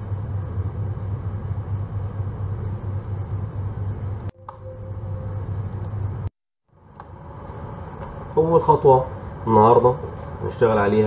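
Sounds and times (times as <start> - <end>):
low hum with faint hiss: 0.0 - 11.0.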